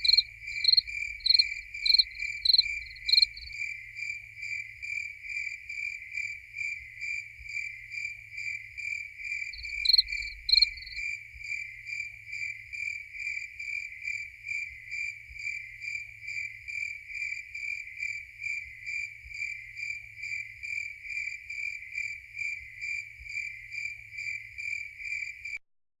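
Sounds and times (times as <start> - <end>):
crickets chirping: 0.0 - 25.6.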